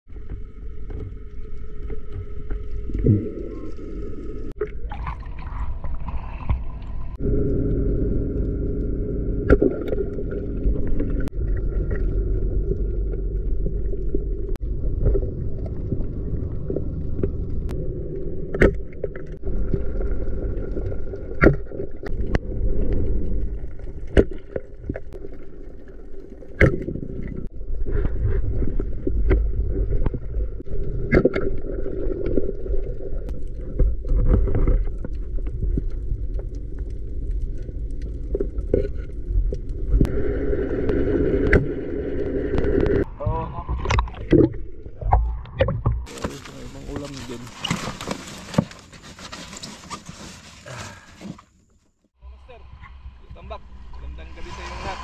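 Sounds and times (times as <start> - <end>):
underwater motor hum: 0.1 - 47.5
higher-pitched underwater sound: 0.1 - 47.9, 52.2 - 55.0.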